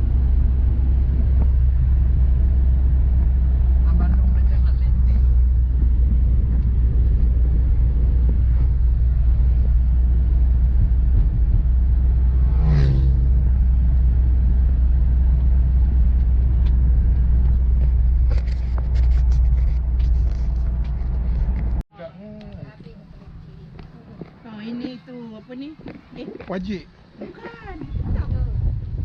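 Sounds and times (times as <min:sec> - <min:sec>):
car road and engine rumble: 0:00.0 - 0:21.8, 0:22.6 - 0:29.0.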